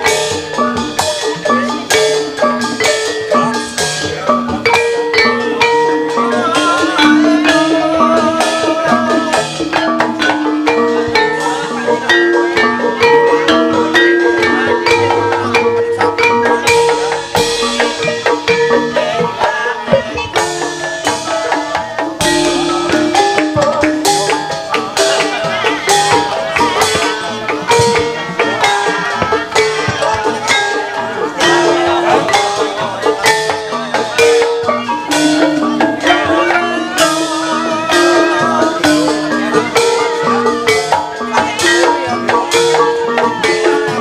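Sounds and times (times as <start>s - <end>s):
gamelan music: 0.0s - 44.0s.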